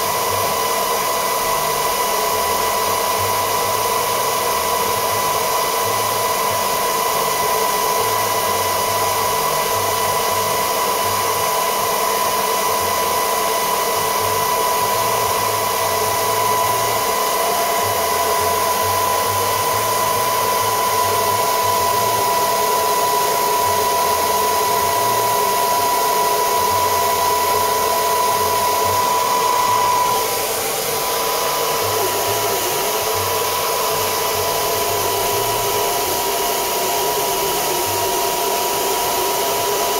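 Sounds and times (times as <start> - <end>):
hot-air blower running: 0.0 - 39.9.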